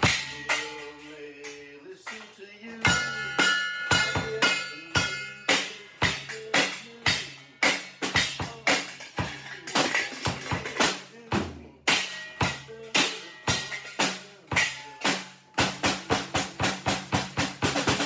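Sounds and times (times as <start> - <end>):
drum kit beat: 0.0 - 1.1, 2.0 - 18.0.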